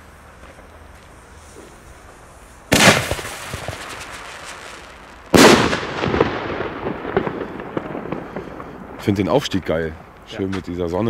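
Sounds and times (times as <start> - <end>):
firework bangs: 0.0 - 9.6
crackling pops: 0.4 - 9.3.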